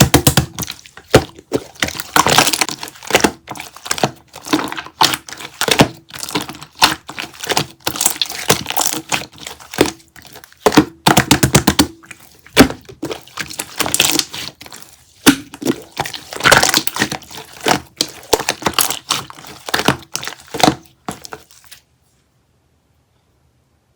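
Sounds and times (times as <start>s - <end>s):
close-up crackling and crinkling: 0.0s - 22.2s.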